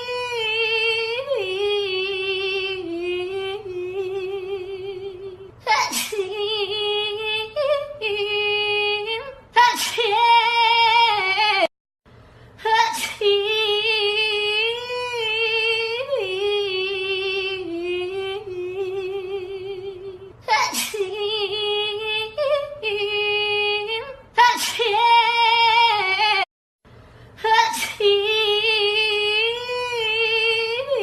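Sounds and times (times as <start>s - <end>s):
high female singing voice: 0.0s - 11.7s, 12.6s - 26.5s, 27.4s - 31.0s.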